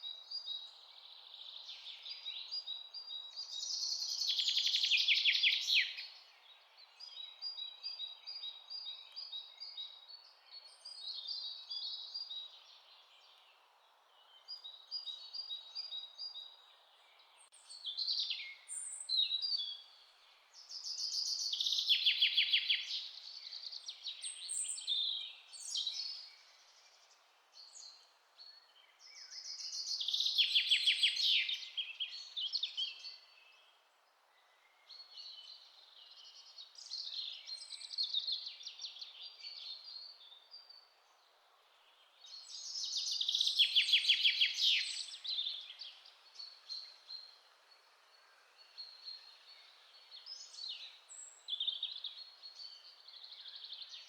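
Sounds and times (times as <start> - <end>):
faint steady hiss: 0.0 - 54.0
songbirds chirping: 0.0 - 54.0.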